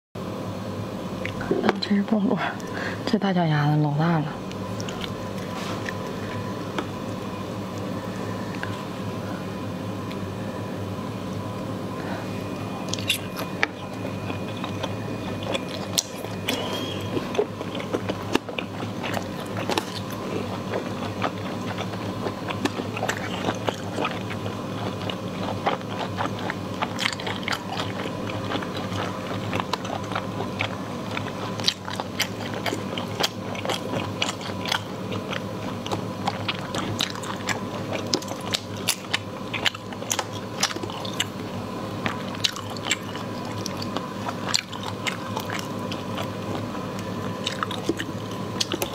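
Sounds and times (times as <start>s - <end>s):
low hum: 0.2s - 48.9s
wet chewing and crunching: 4.4s - 9.0s, 11.2s - 48.9s.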